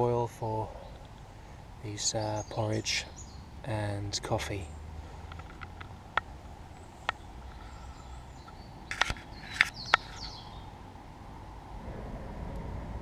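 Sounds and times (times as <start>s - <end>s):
faint bird calls: 0.6s - 11.0s.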